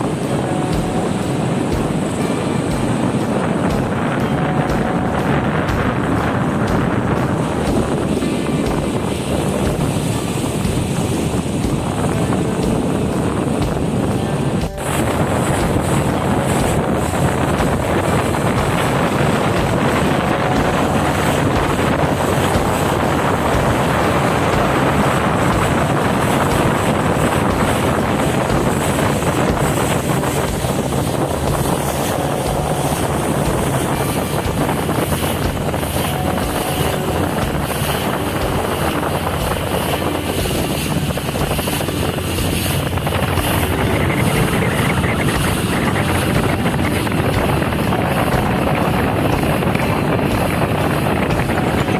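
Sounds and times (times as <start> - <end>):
low even drone: 0.0 - 51.9
water rushing: 0.0 - 51.9
wind: 0.0 - 51.9.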